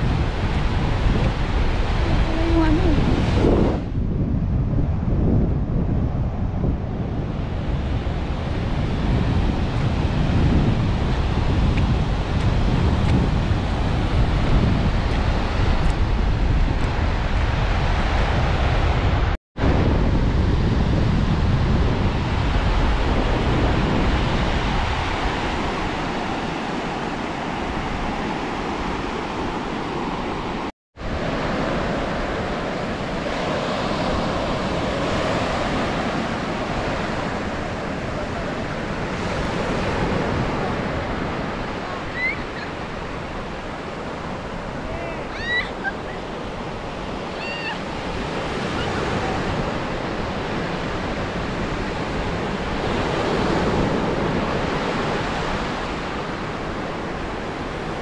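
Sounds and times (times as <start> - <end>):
ocean surf washing onto beach: 0.0 - 58.0
wind buffeting microphone: 0.0 - 58.0.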